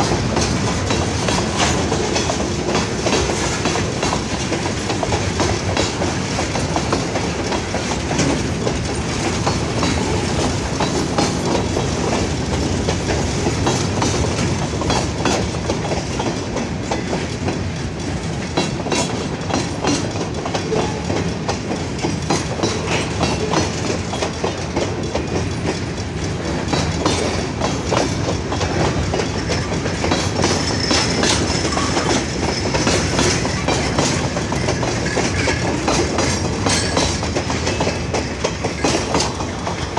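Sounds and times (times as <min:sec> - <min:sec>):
freight train cars rolling: 0:00.0 - 0:39.9
wheels clicking over rail joints: 0:00.0 - 0:39.9.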